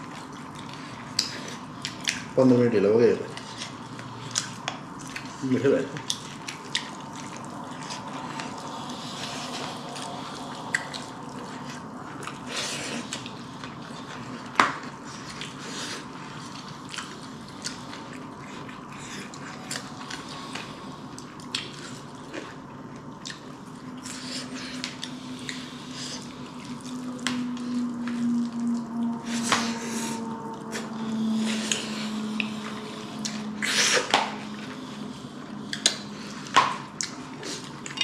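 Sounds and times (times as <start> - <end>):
chewing wet food: 0.0 - 38.0
low hum: 3.4 - 38.0.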